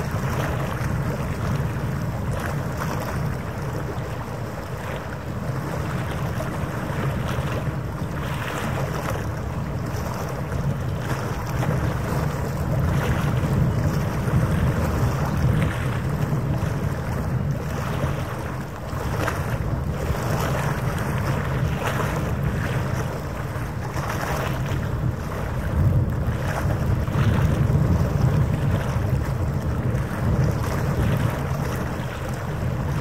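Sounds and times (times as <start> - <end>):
wind blowing across microphone: 0.0 - 33.0.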